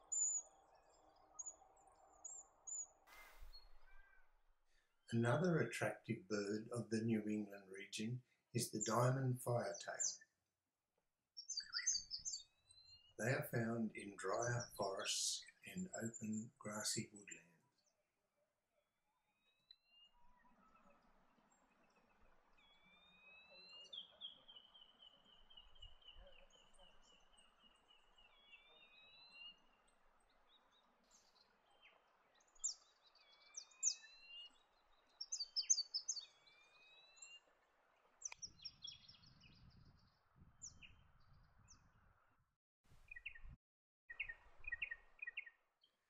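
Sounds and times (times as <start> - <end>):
small birds chipping and twittering: 0.0 - 5.0, 5.7 - 10.3, 11.4 - 18.0, 19.3 - 42.0, 43.0 - 46.0.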